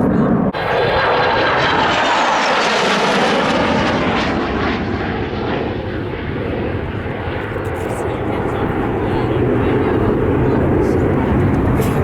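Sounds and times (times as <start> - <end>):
airplane flying past: 0.0 - 12.0.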